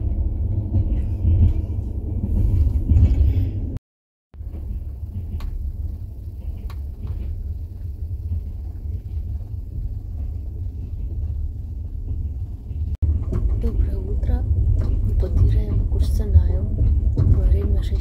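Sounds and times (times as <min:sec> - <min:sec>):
passenger train rumble: 0:00.0 - 0:03.8, 0:04.4 - 0:18.0.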